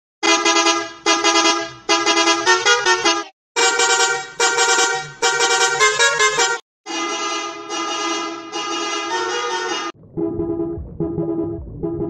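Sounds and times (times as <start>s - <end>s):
bus horn playing a tune: 0.2s - 10.0s.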